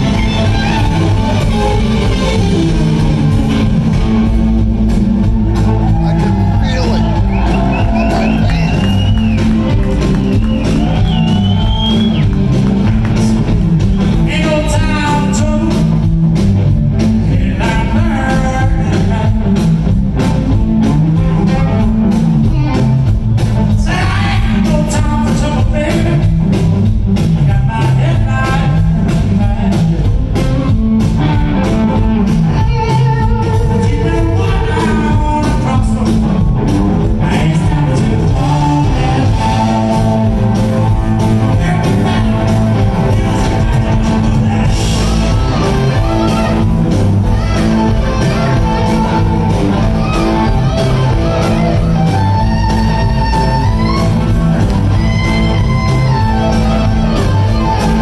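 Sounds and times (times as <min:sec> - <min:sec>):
electric bass: 0:00.0 - 0:58.0
electric guitar lead with bent notes: 0:00.0 - 0:58.0
steady drum beat: 0:00.0 - 0:58.0.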